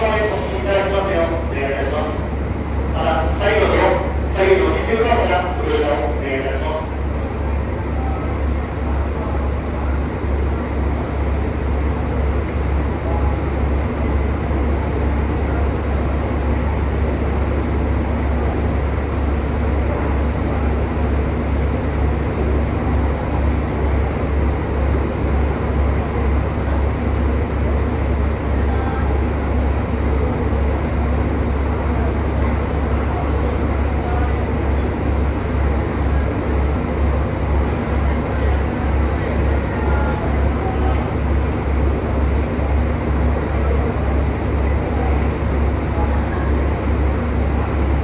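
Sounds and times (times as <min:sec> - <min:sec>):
electric train humming: 0:00.0 - 0:48.0
murmur of voices: 0:00.0 - 0:48.0.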